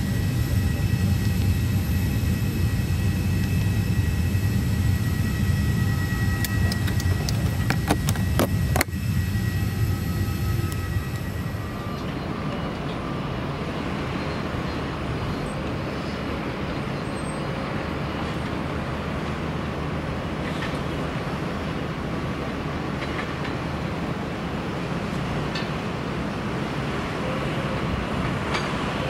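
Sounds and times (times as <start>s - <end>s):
low machinery drone: 0.0s - 29.0s.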